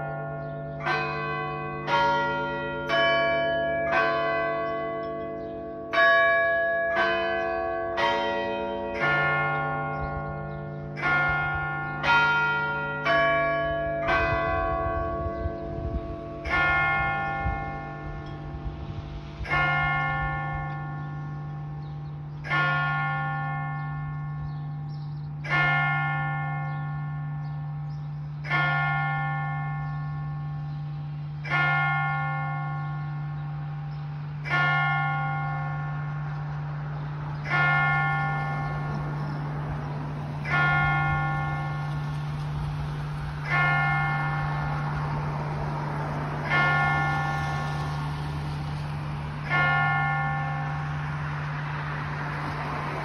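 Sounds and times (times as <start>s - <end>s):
other bells ringing: 0.0s - 30.8s, 31.4s - 53.0s
church bell tolling: 0.0s - 53.0s.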